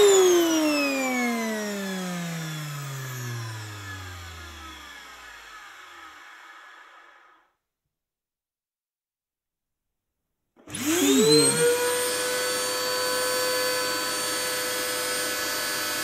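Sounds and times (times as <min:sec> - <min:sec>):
vacuum cleaner motor winding down: 0:00.0 - 0:07.5, 0:10.6 - 0:16.0.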